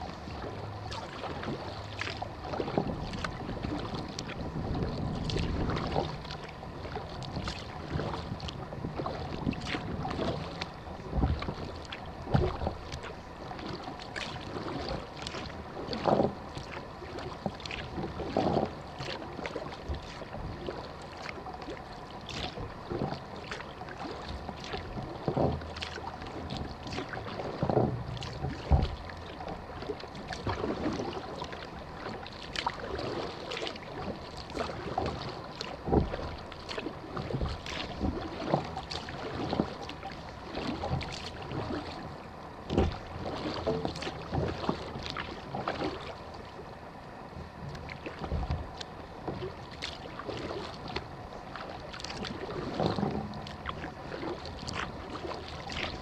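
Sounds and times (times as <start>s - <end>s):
paddle splashing in water: 0.0s - 47.0s, 47.7s - 56.0s.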